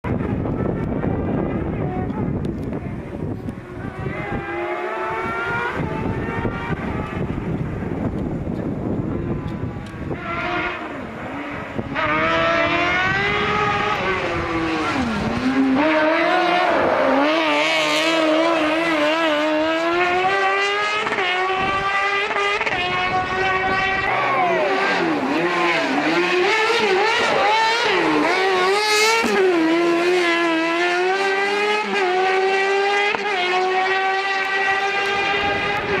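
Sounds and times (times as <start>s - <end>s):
buggy engine at high revs: 3.6s - 36.0s.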